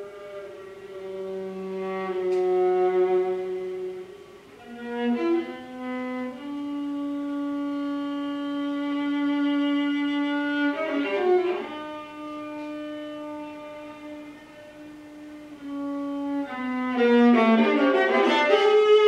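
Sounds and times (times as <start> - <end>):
violin bowed slow notes: 0.0 - 19.0.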